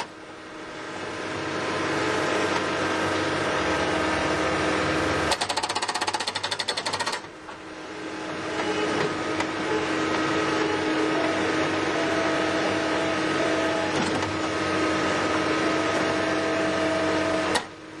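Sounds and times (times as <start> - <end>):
engine and hydraulic drone: 0.0 - 18.0.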